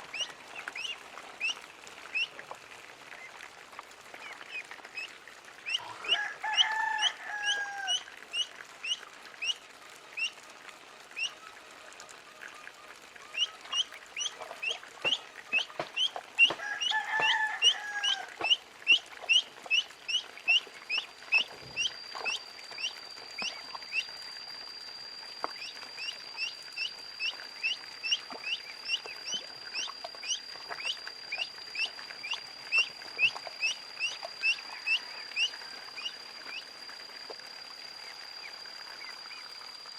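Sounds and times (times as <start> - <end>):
ducklings peeping: 0.1 - 2.4, 4.1 - 10.4, 11.1 - 24.4, 25.4 - 37.4, 38.0 - 39.6
faint high whine: 3.2 - 39.9.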